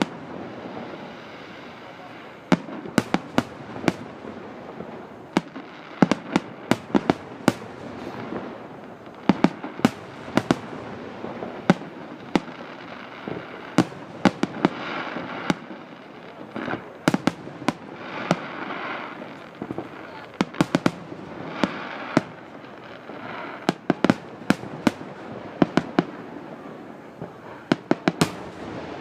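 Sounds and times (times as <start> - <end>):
continuous background noise: 0.0 - 29.0
fireworks bursting: 0.0 - 29.0.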